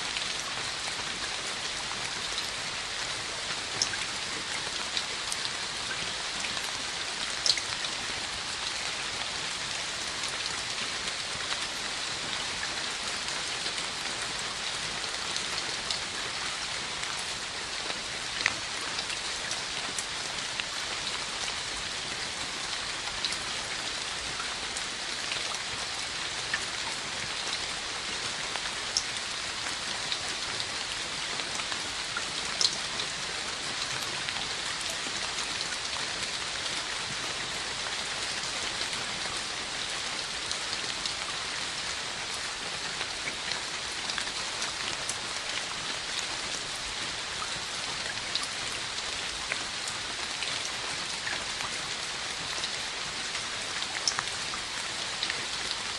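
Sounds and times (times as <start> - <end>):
rain on a hard surface: 0.0 - 55.9.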